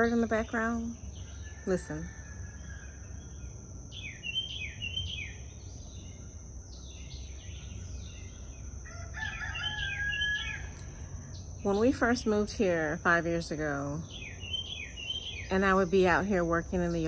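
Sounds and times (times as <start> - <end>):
songbird chirping: 0.0 - 17.0
steady high-pitched hum: 0.0 - 17.0.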